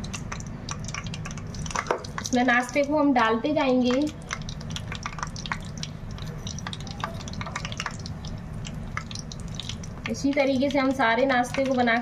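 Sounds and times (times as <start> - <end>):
food sizzling in hot oil: 0.0 - 12.0
low steady hum: 0.0 - 12.0.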